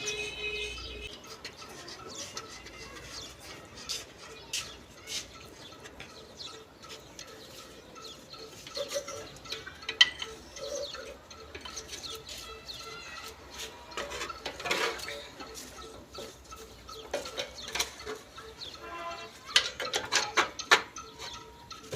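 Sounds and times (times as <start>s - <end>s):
sharp clicks and chirps: 1.0s - 21.9s.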